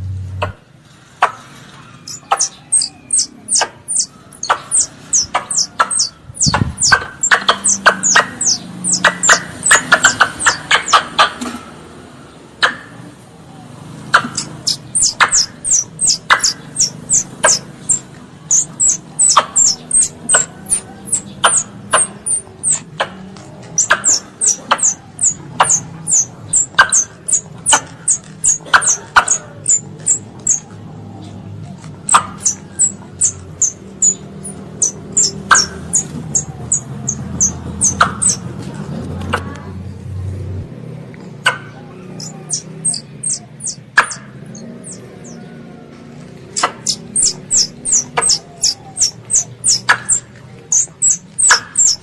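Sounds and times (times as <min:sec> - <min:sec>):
squirrel chirping: 0:01.2 - 0:11.4, 0:14.1 - 0:38.5, 0:41.4 - 0:45.5, 0:46.5 - 0:52.0.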